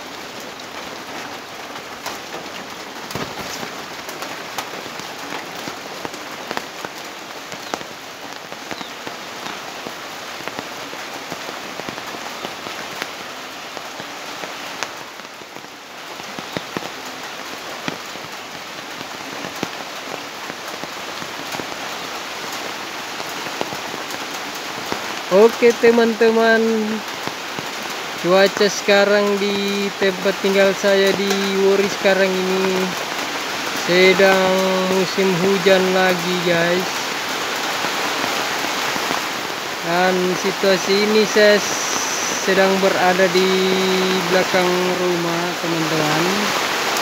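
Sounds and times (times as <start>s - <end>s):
heavy rain falling: 0.0s - 47.0s.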